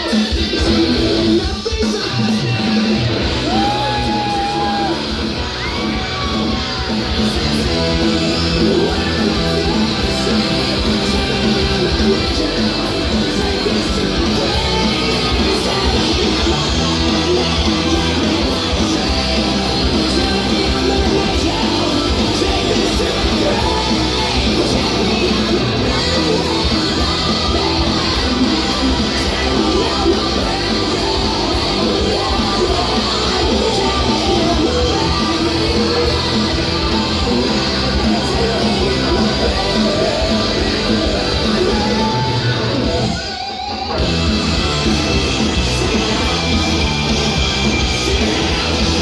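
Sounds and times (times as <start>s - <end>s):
person singing and yelling: 0.0s - 49.0s
rock music with guitar: 0.0s - 49.0s.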